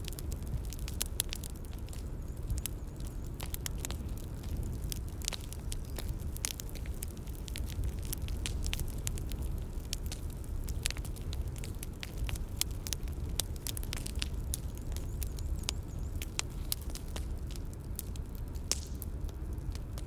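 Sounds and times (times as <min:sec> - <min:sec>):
bonfire crackling and popping: 0:00.0 - 0:20.0
low rush of burning: 0:00.0 - 0:20.0.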